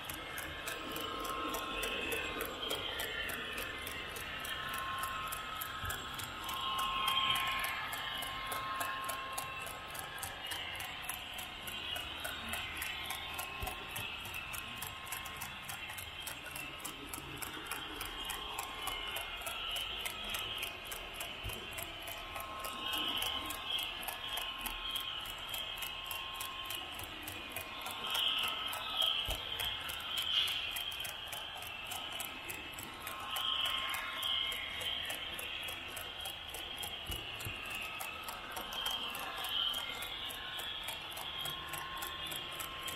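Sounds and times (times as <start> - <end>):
model train wheels ticking on rails: 0.0 - 42.9.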